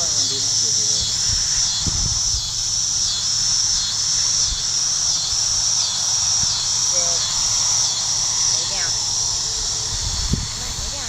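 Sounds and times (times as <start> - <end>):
crickets chirping: 0.0 - 11.0
low machinery hum: 0.0 - 11.0.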